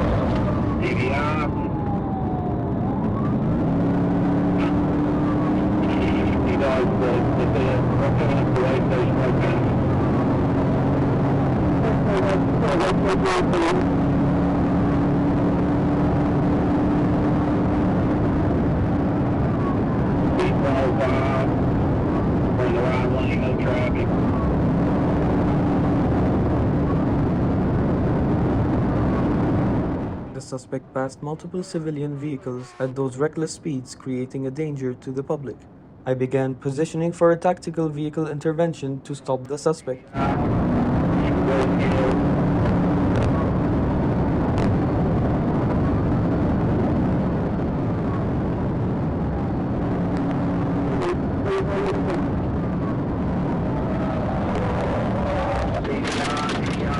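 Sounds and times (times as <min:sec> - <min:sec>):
road noise inside car: 0:00.0 - 0:56.9.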